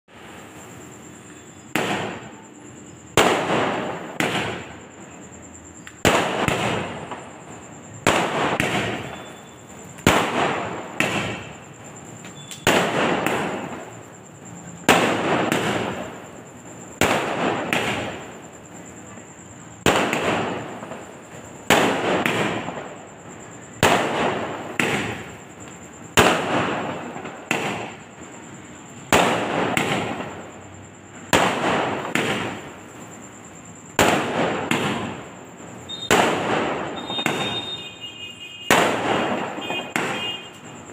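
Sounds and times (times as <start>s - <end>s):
fireworks bursting: 0.1s - 40.9s.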